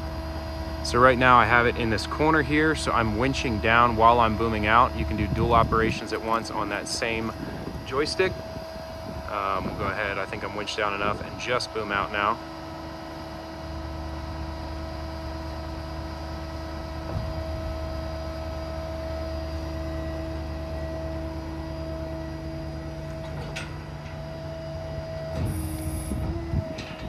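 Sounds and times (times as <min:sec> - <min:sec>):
hydraulic system humming: 0:00.0 - 0:27.0.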